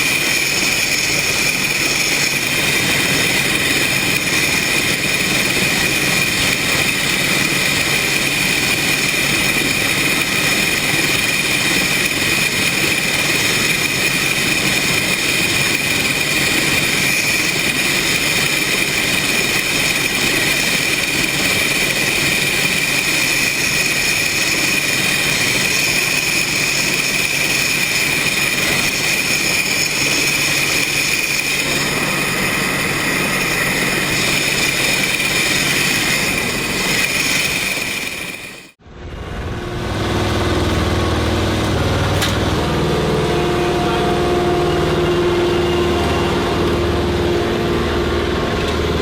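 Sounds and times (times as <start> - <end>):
machine whining: 0.0 - 49.0.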